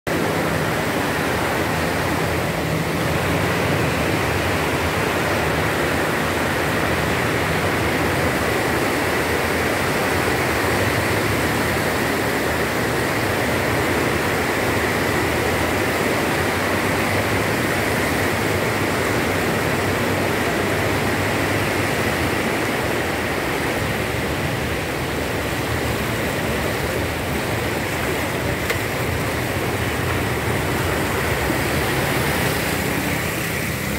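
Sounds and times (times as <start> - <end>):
car engine humming: 0.1 - 33.9
floodwater rushing and splashing: 0.1 - 33.9.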